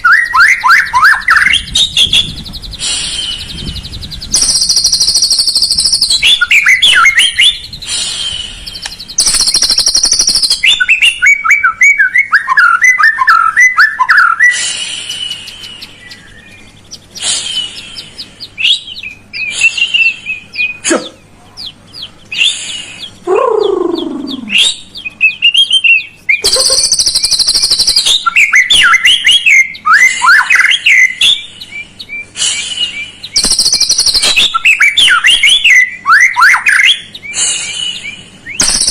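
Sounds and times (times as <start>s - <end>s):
bird warbling whistles and chirps: 0.0s - 38.9s.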